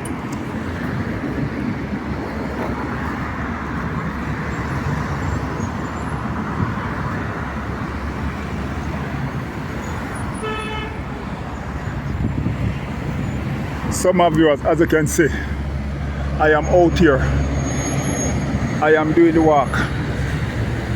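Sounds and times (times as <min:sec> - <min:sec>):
passing cars: 0:00.0 - 0:20.9.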